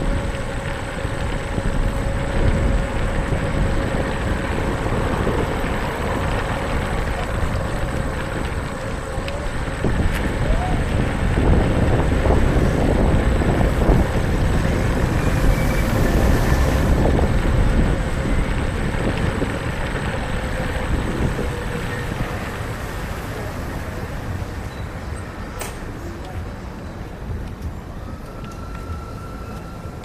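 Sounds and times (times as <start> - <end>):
small wheels rumbling on pavement: 0.0 - 30.0
wind rushing over microphone: 0.0 - 30.0.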